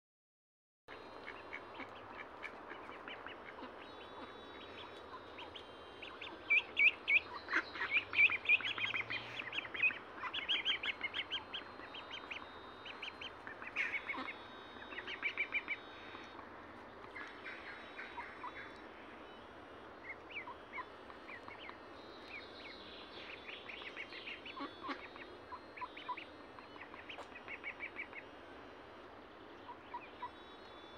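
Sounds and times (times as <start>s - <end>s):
ducks quacking: 0.9s - 19.4s, 20.0s - 28.5s, 29.6s - 30.8s
birds calling: 0.9s - 30.9s.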